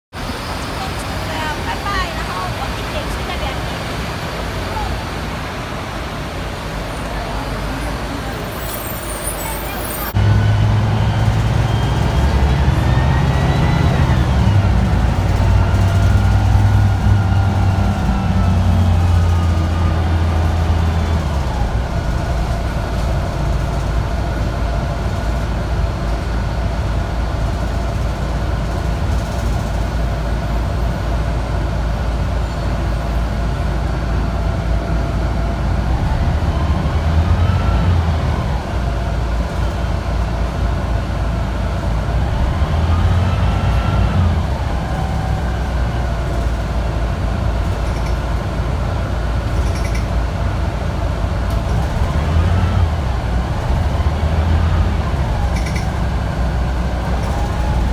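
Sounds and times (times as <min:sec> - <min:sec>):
bus engine drone: 0:00.1 - 0:57.9
engine whine: 0:00.2 - 0:57.9.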